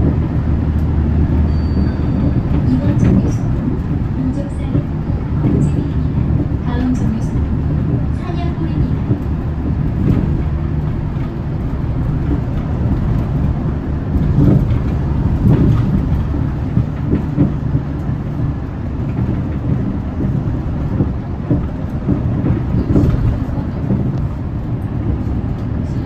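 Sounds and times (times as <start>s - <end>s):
knocks and rattles: 0.0s - 25.8s
bus engine and road rumble: 0.0s - 26.0s.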